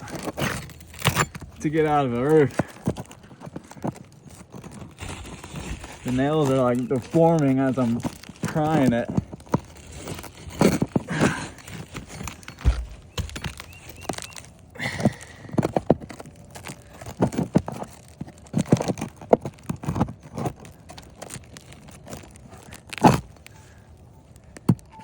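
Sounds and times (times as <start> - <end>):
nail being pried out of shingles: 0.0 - 25.0.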